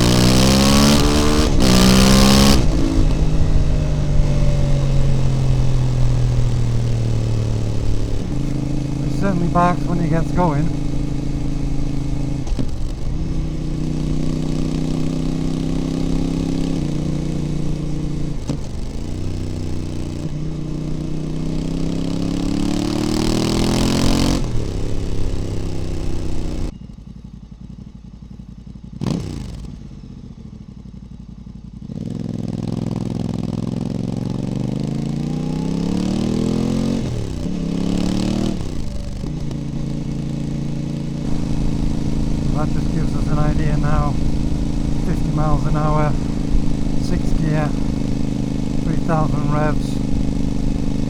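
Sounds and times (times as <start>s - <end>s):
motorcycle engine revving through gears: 0.0s - 51.0s.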